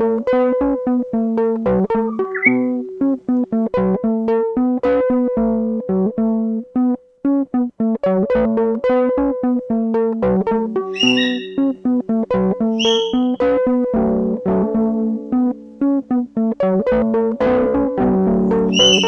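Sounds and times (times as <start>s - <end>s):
plucked instrumental music: 0.6s - 5.1s, 6.8s - 19.0s.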